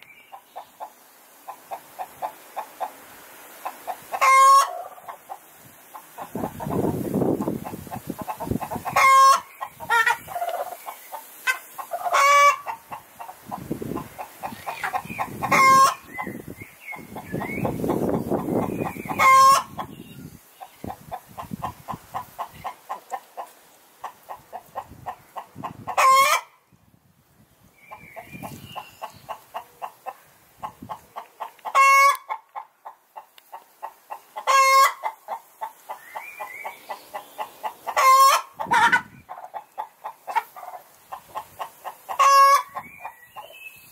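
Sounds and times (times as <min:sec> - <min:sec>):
hens clucking: 0:00.0 - 0:20.0, 0:20.6 - 0:26.5, 0:27.9 - 0:43.6
hens squawking: 0:03.6 - 0:20.0, 0:20.7 - 0:26.5, 0:28.2 - 0:43.5.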